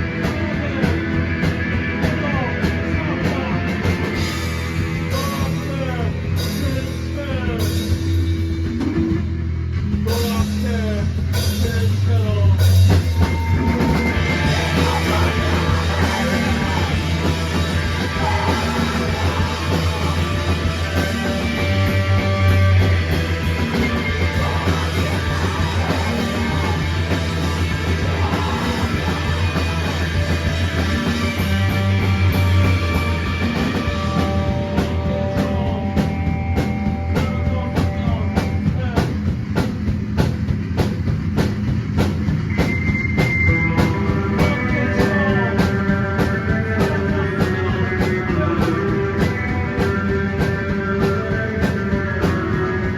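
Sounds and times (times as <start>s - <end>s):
rock band playing: 0.0s - 52.9s.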